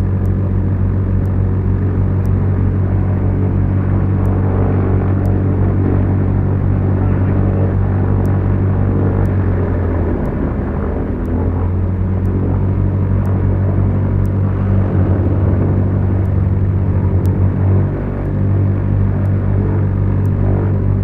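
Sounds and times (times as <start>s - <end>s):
airplane propeller engines droning: 0.0s - 21.0s.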